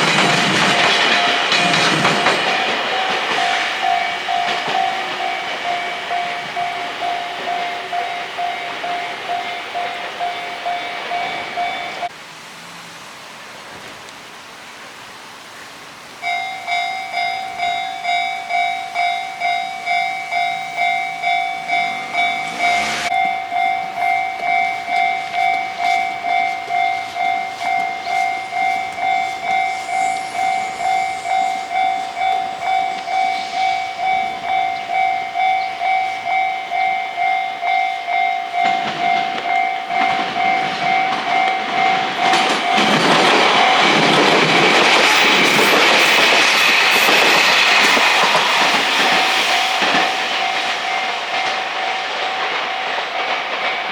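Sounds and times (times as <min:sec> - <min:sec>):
train wheel clatter: 0:00.0 - 0:12.1, 0:16.2 - 0:53.9
level-crossing warning bell: 0:00.0 - 0:12.2, 0:16.2 - 0:53.9.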